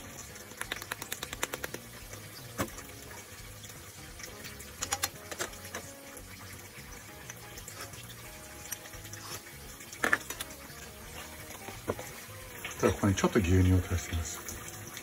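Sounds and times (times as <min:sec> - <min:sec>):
broth simmering in a pan: 0:00.0 - 0:15.0.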